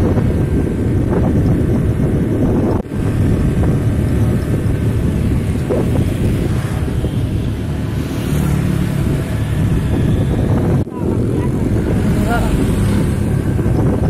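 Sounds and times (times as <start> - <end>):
heavy vehicle engine rumble: 0.0 - 14.0
wind buffeting microphone: 0.0 - 14.0.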